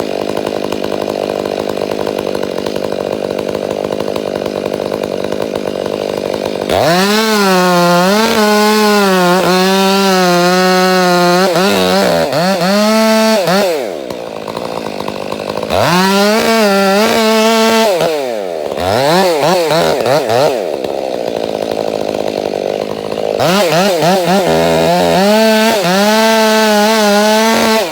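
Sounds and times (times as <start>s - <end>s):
chainsaw revving and idling: 0.0s - 27.9s.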